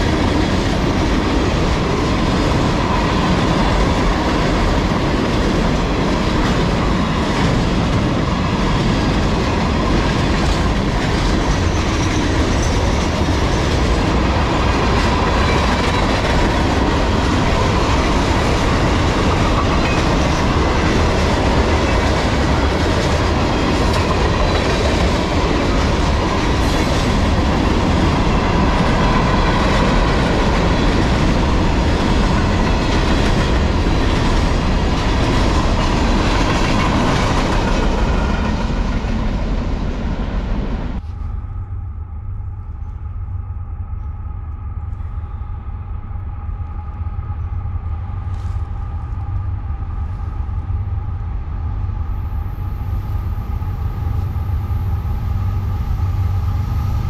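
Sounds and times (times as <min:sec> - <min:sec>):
freight train cars rumbling: 0:00.0 - 0:57.0.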